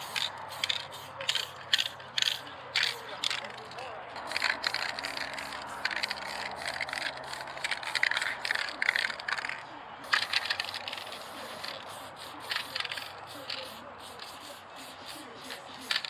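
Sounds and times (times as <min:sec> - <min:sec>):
mixing ball rattling in can: 0:00.0 - 0:14.4, 0:15.4 - 0:16.0
spray paint can hissing: 0:00.0 - 0:16.0.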